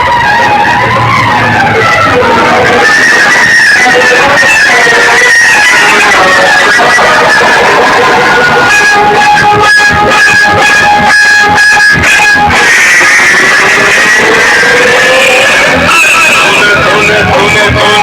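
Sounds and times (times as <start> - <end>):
loud music over loudspeakers: 0.0 - 18.0
twangy guitar-like melody: 0.0 - 18.0.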